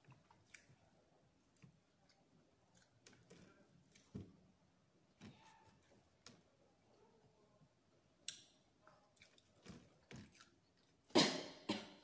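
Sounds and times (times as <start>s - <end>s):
close chewing and mouth sounds: 0.0s - 7.0s, 8.2s - 11.2s.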